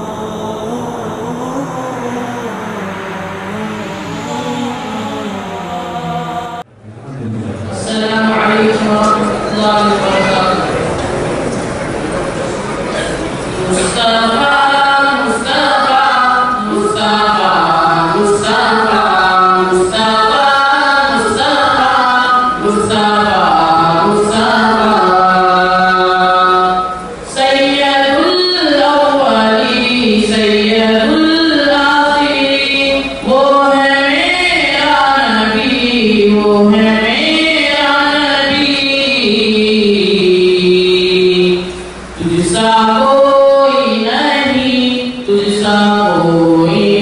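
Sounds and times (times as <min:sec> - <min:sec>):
boys singing devotional song: 0:00.0 - 0:11.3, 0:13.0 - 0:47.0.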